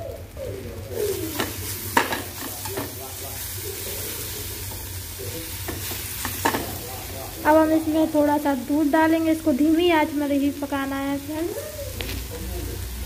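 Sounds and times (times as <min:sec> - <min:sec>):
carrots sizzling in a frying pan: 0:00.0 - 0:13.0.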